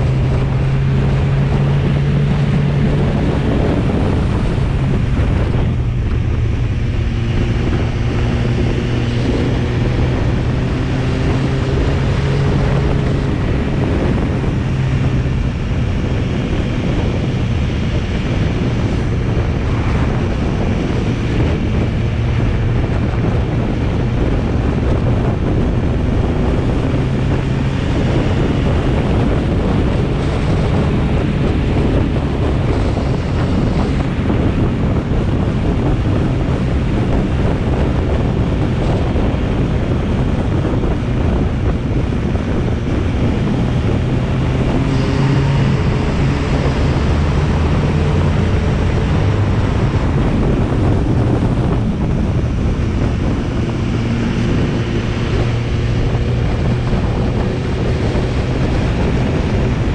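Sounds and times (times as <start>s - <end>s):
motorcycle engine cruising: 0.0s - 59.9s
wind noise on microphone: 0.0s - 59.9s.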